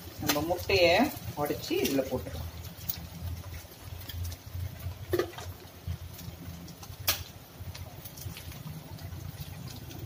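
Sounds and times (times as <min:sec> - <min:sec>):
egg frying in oil: 0:00.0 - 0:10.0.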